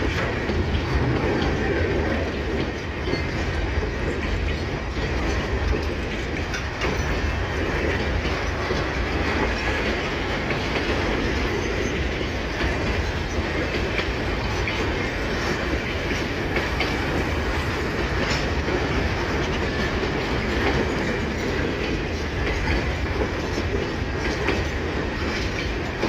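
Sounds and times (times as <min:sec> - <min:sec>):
freight train rolling past: 0:00.0 - 0:26.0
wheels clacking over rail joints: 0:00.0 - 0:26.0.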